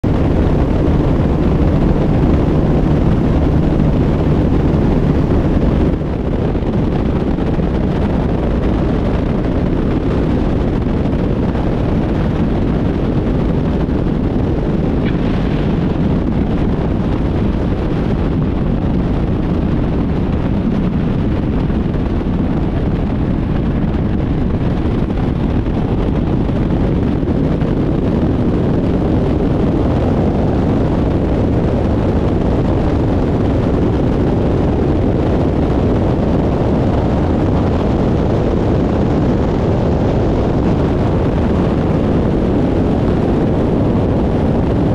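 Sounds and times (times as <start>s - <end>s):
aircraft engine and propeller: 0.0s - 44.9s
wind rush: 0.0s - 44.9s.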